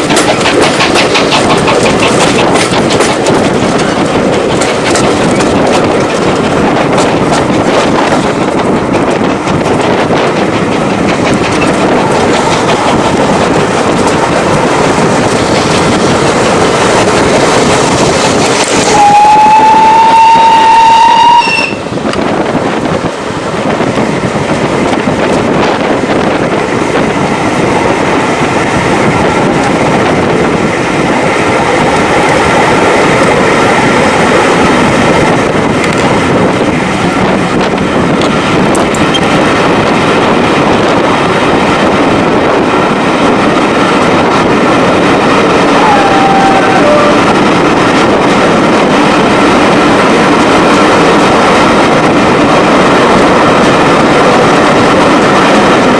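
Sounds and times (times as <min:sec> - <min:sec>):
train rolling: 0:00.0 - 0:55.9.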